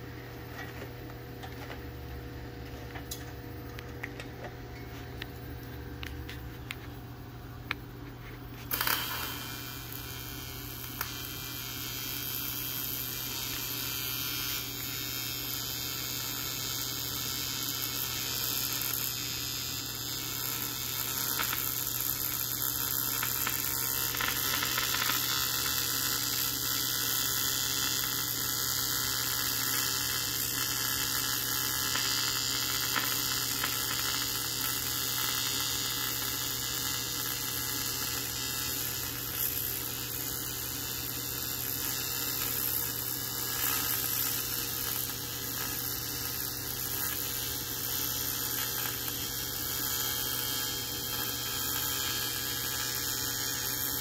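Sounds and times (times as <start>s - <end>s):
welding arc buzzing hiss: 0.0s - 54.0s.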